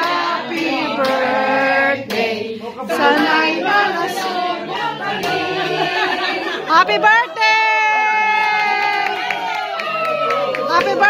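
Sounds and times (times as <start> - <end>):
women singing together: 0.0 - 9.1, 10.7 - 11.0.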